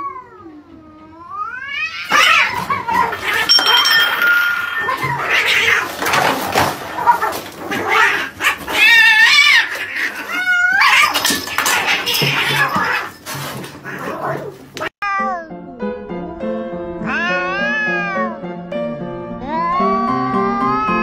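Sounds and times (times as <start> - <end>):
cats yowling and screeching: 0.0 - 15.5, 17.0 - 18.4, 19.3 - 21.0.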